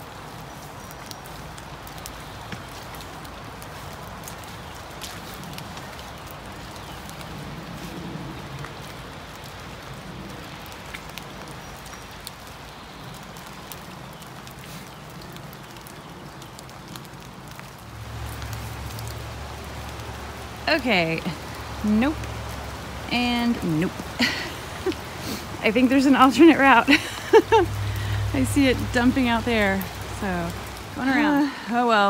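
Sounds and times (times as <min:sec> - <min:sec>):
light rain pattering on leaves: 0:00.0 - 0:32.0.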